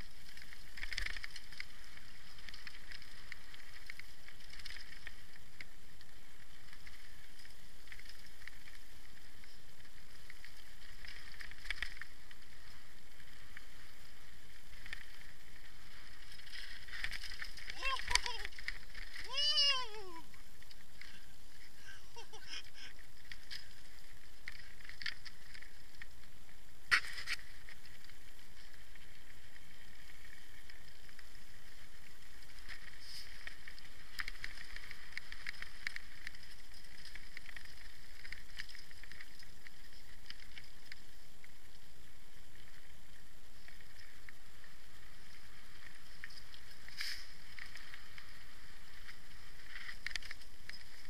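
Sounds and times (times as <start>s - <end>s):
bike rattling over bumps: 0.0s - 51.0s.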